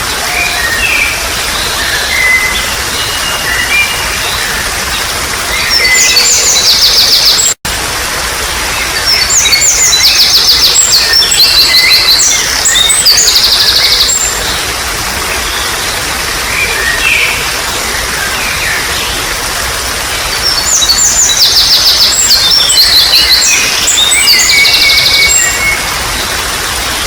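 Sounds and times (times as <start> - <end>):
songbirds singing: 0.0 - 7.6, 8.5 - 27.0
water trickling: 0.0 - 27.0.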